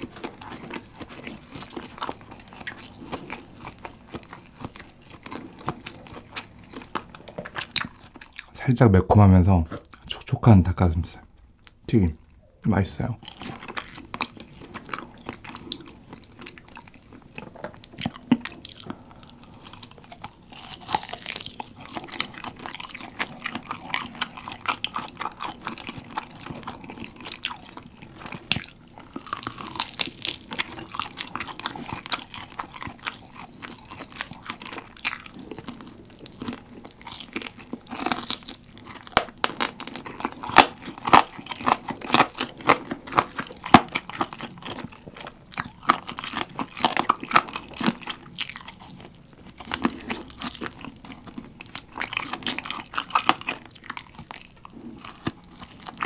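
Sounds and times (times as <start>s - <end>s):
chewing and crunching fried chicken: 0.0s - 56.0s.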